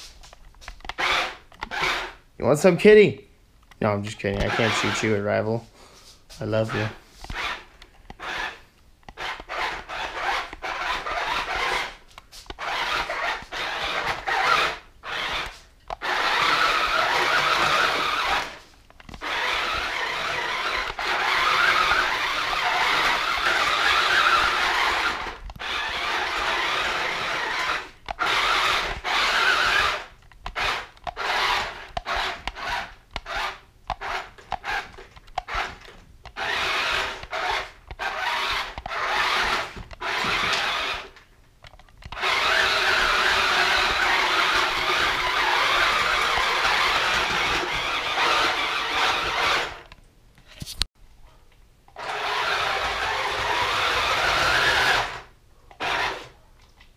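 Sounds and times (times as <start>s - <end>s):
toy electric motors whirring: 0.8s - 2.2s, 4.0s - 5.4s, 6.4s - 50.0s, 52.0s - 56.4s.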